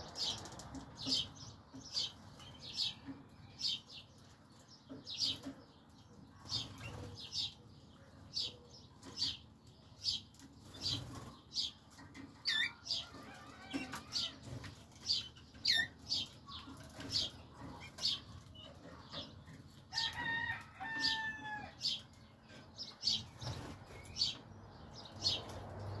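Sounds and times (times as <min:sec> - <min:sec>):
canaries chirping: 0:00.0 - 0:26.0.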